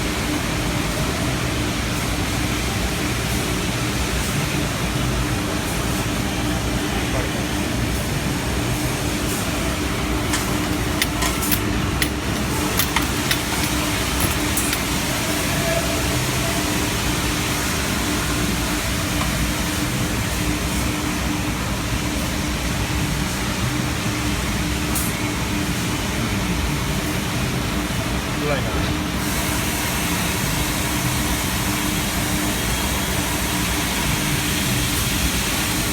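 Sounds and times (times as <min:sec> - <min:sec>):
pump machine hum: 0:00.0 - 0:35.9.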